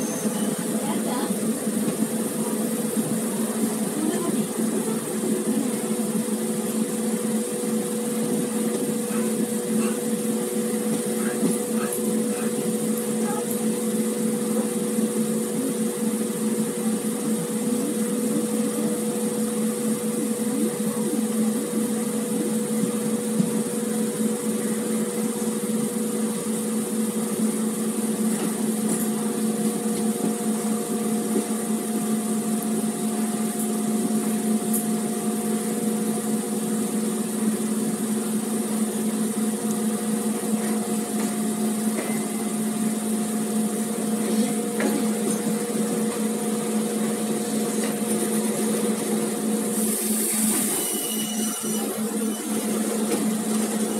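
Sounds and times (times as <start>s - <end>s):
train running noise from inside: 0.0s - 53.9s.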